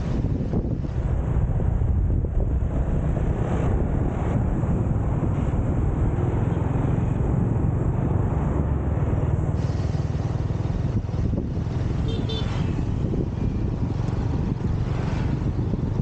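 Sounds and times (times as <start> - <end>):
motorcycle engine rumble: 0.0 - 16.0
road noise: 0.0 - 16.0
wind rushing over microphone: 0.0 - 16.0.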